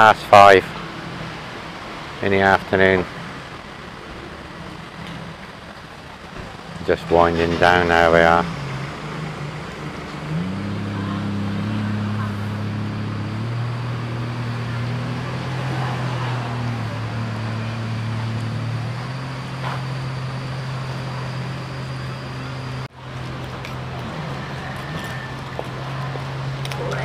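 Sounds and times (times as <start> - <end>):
outdoor background noise: 0.0 - 27.0
vehicle engine running: 0.0 - 27.0.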